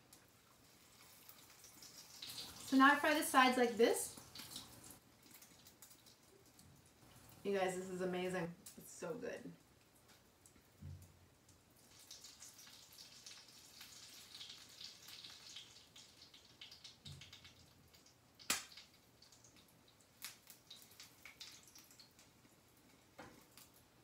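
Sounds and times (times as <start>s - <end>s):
oil sizzling faintly: 0.0s - 24.0s.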